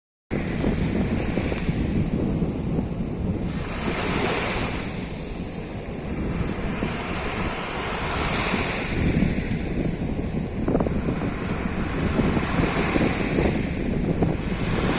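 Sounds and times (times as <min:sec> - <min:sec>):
low rumble of the sea: 0:00.3 - 0:14.9
surf breaking on a beach: 0:00.3 - 0:14.9
wind buffeting microphone: 0:00.3 - 0:14.9.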